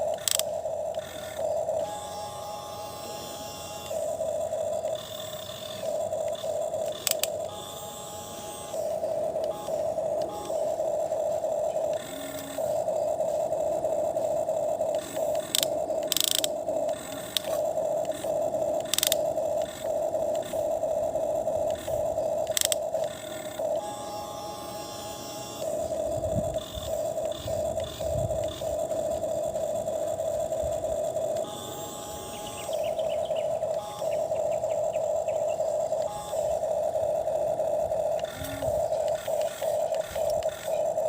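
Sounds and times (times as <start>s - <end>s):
sharp clicks: 0.0s - 41.0s
toy electric motor whirring: 0.0s - 41.0s.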